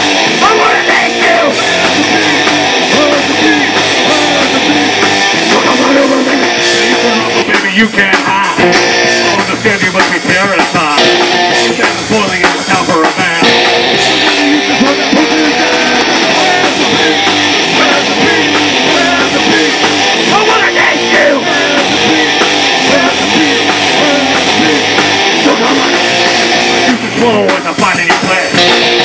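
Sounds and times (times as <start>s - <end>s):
bass guitar: 0.0s - 29.0s
distorted electric guitars: 0.0s - 29.0s
drum kit: 0.0s - 29.0s.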